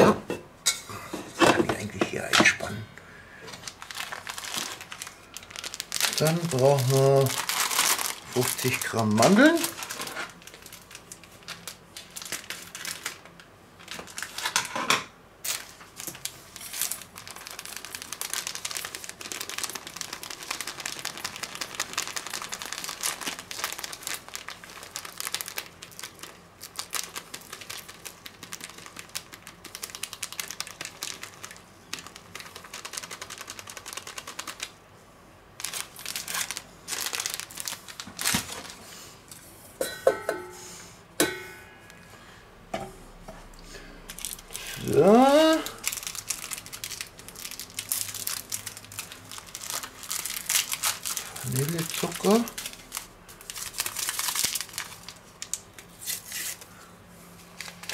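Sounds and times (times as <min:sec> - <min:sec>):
packet crinkling and rustling: 0:03.4 - 0:14.8, 0:15.4 - 0:34.8, 0:35.6 - 0:39.0, 0:44.0 - 0:57.9.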